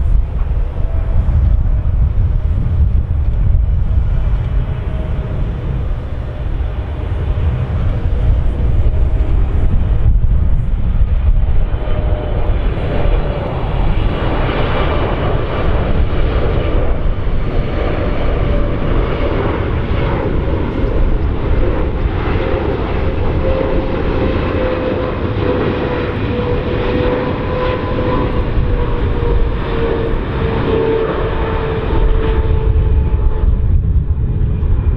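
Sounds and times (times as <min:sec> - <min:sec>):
jet engines passing overhead: 0:00.0 - 0:34.9.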